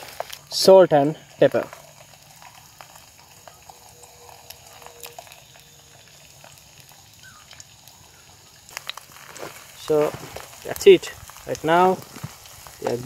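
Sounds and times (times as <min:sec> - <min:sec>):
eggs sizzling in a pan: 0:00.0 - 0:13.0
small crackles and pops: 0:00.0 - 0:13.0.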